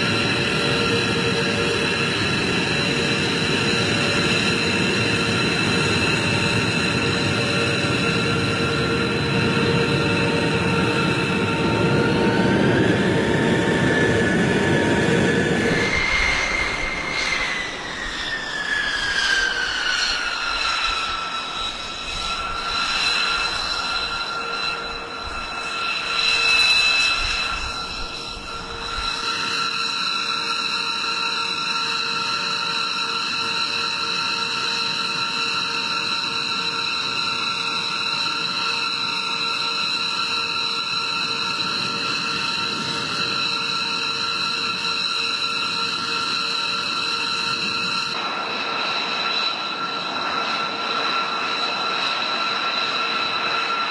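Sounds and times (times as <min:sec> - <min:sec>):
high engine whine: 0:00.0 - 0:53.9
jet engines roaring: 0:00.0 - 0:53.9.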